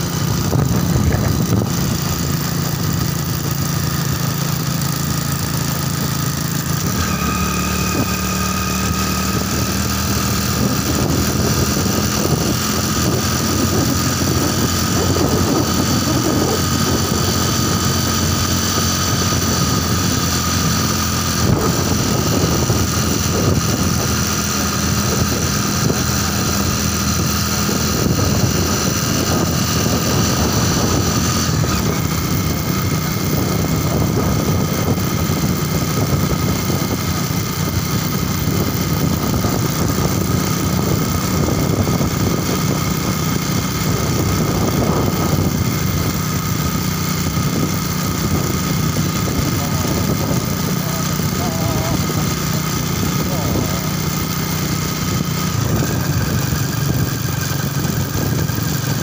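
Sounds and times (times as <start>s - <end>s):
motorbike engine cruising: 0.0s - 59.0s
wind and road noise: 0.0s - 59.0s.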